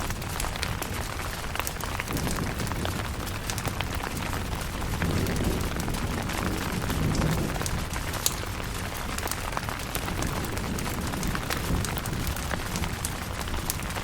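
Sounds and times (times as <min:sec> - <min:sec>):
low thunder rumble: 0:00.0 - 0:14.0
rain pattering on a tent: 0:00.0 - 0:14.0.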